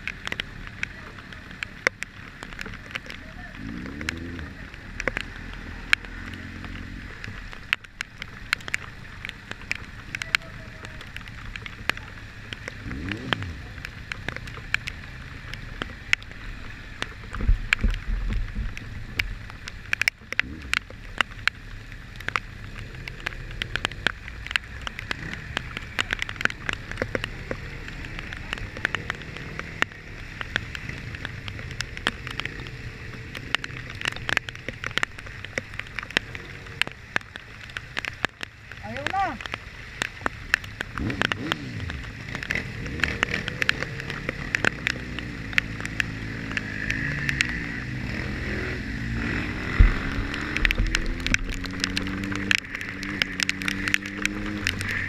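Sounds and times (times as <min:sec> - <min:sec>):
rain drops tapping: 0:00.0 - 0:55.0
vehicle rumble: 0:00.0 - 0:55.0.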